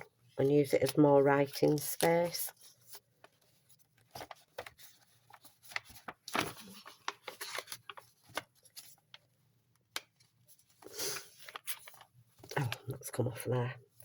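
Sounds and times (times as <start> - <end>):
paper rustling and crinkling: 0.4 - 9.4, 10.0 - 12.9.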